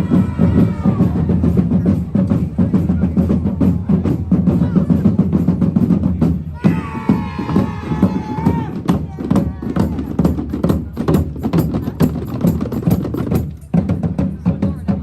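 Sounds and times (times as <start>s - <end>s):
fast drum rhythm with rolls: 0.0s - 15.0s.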